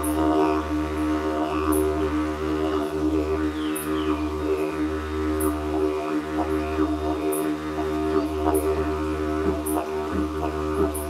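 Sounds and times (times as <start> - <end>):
didgeridoos droning: 0.0 - 11.0.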